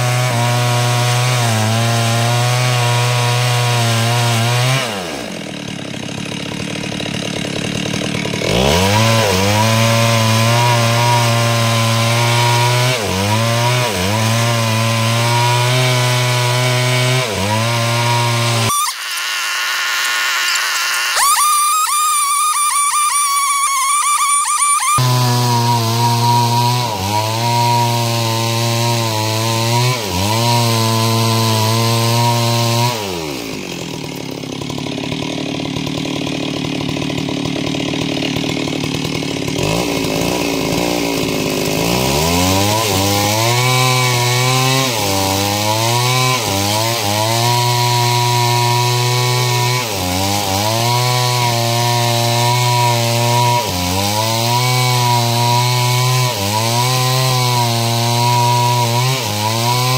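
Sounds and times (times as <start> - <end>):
chainsaw ripping wood: 0.0 - 59.9.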